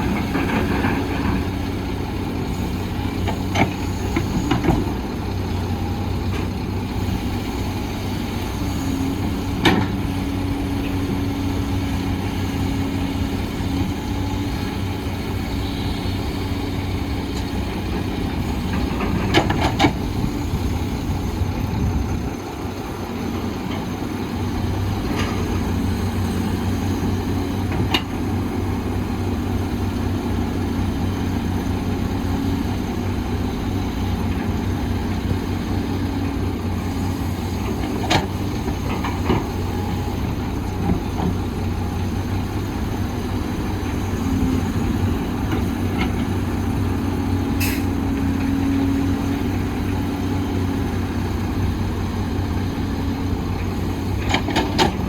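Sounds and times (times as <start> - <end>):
diesel machinery running: 0.0 - 55.0.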